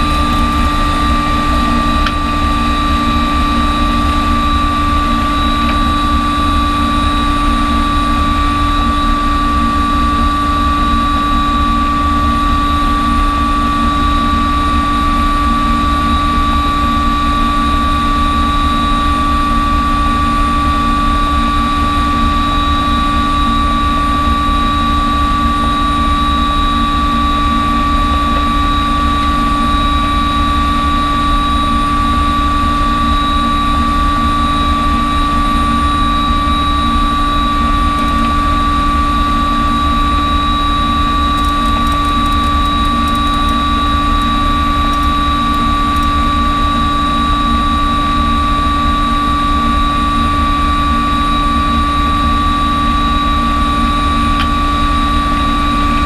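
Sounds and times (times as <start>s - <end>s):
helicopter rotor whine: 0.0s - 56.0s.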